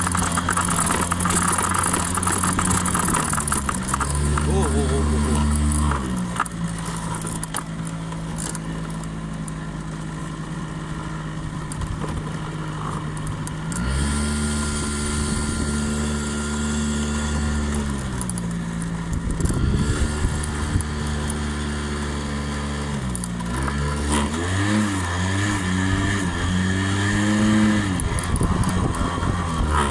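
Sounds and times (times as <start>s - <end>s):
scooter engine running: 0.0s - 29.9s.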